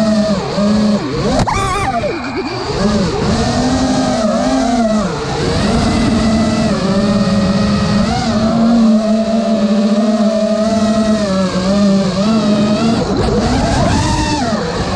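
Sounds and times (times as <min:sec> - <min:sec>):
quadcopter motors whining: 0:00.0 - 0:14.9.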